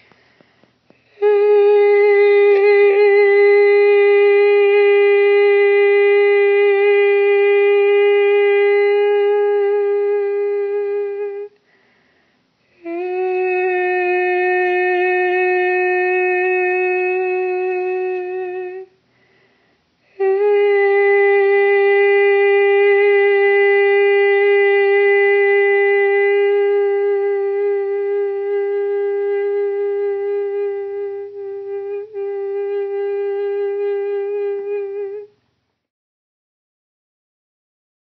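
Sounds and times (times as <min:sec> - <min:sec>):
woman singing held notes: 0:00.8 - 0:11.7, 0:12.6 - 0:19.0, 0:20.0 - 0:35.4.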